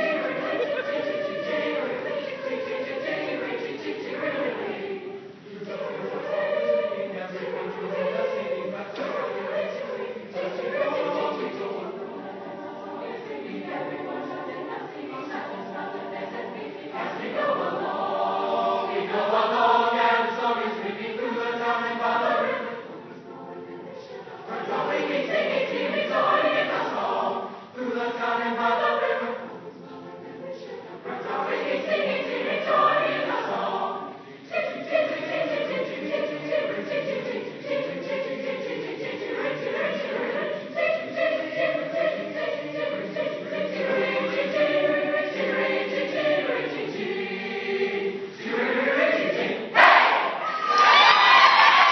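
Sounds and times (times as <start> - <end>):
choir singing: 0.0 - 51.9.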